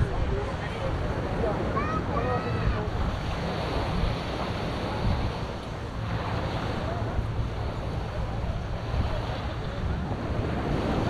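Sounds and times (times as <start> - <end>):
faint voices: 0.0 - 11.0
surf washing: 0.0 - 11.0
wind buffeting microphone: 0.0 - 11.0.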